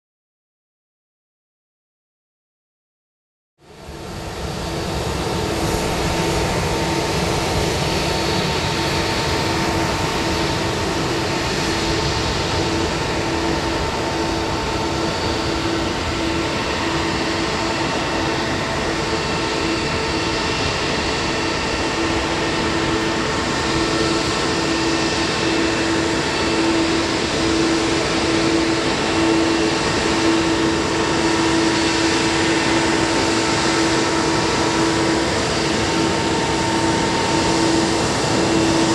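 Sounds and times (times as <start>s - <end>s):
airliner cabin noise: 3.9s - 38.9s.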